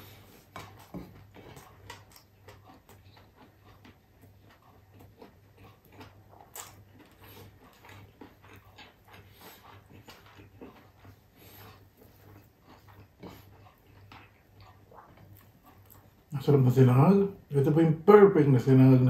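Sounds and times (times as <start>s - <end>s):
soft chewing: 0.0s - 17.8s
faint steady low hum: 0.0s - 19.0s.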